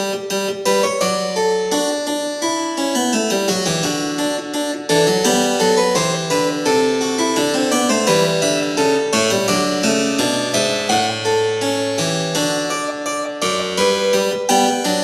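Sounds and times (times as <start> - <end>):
harpsichord-like keyboard piece: 0.0 - 15.0.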